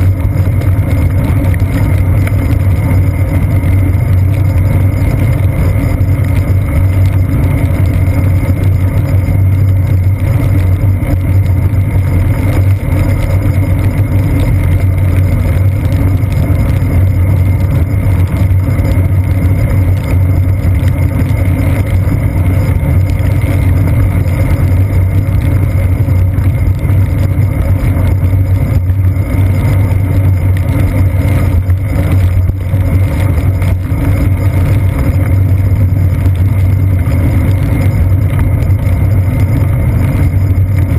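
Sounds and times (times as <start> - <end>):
bicycle rolling on wet pavement: 0.0 - 40.9.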